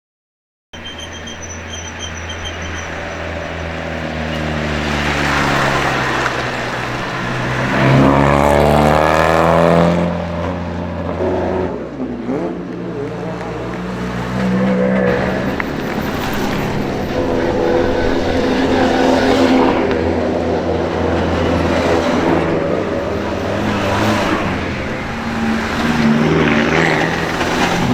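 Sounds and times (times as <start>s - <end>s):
race car engine revving: 1.2s - 27.9s.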